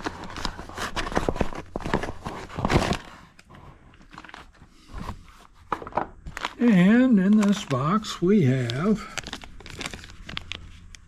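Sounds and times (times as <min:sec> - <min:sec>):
cardboard box packaging crackling: 0:00.0 - 0:11.0.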